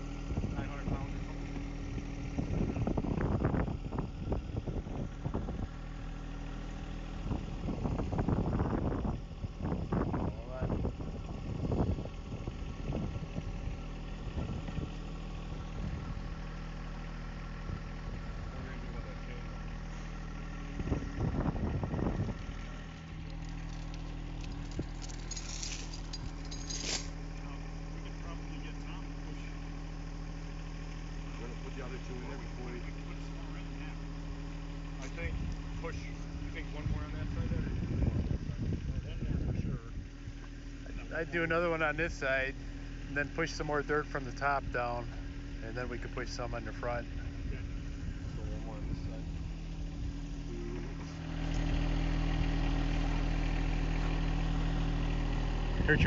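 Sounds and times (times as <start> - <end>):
diesel tractor engine idling: 0.0 - 56.0.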